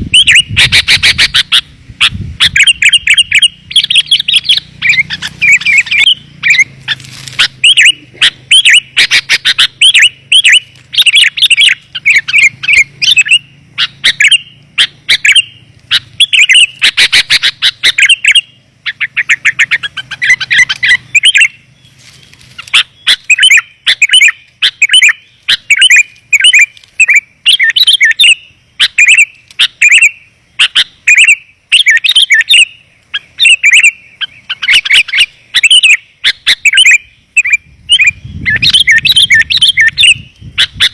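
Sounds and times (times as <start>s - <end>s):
bulbul calls chirping: 0.0s - 40.9s.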